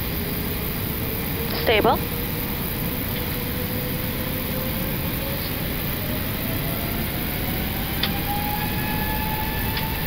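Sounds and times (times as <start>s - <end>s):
jet engines spooling up: 0.0s - 10.0s.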